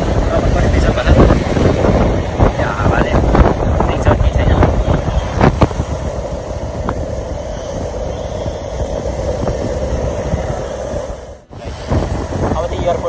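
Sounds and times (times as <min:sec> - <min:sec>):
road rumble: 0:00.0 - 0:13.0.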